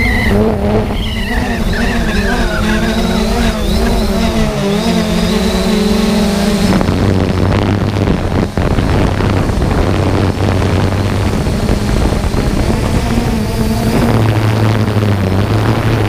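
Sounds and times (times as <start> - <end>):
quadcopter propellers buzzing: 0.0 - 16.0.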